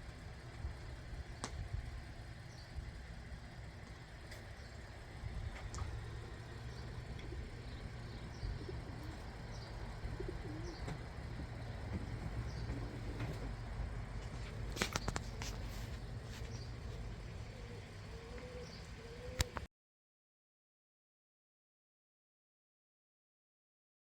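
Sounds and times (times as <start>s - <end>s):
birds calling: 0.0s - 19.7s
low outdoor rumble: 0.0s - 19.7s.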